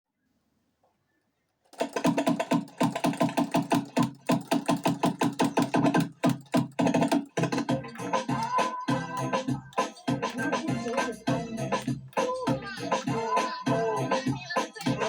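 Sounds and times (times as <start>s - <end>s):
dj scratching: 1.8s - 15.0s.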